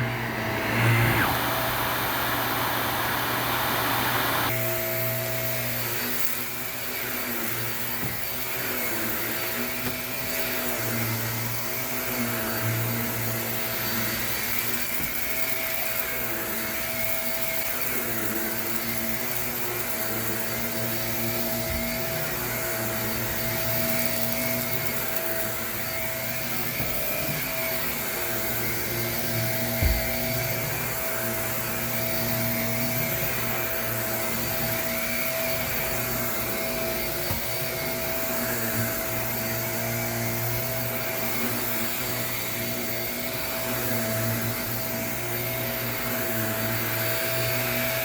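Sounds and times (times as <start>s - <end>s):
vacuum cleaner running on carpet: 0.0s - 48.0s.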